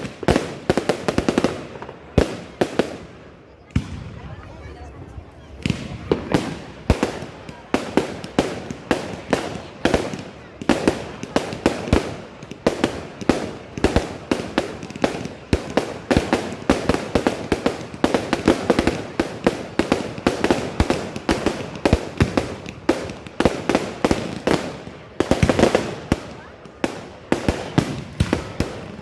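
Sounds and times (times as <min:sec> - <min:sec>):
fireworks bangs and cracks: 0:00.0 - 0:29.0.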